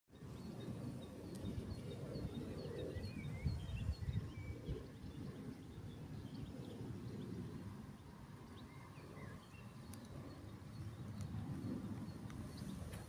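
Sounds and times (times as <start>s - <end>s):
wind rumble on microphone: 0.1s - 13.0s
small birds chirping: 0.2s - 13.0s.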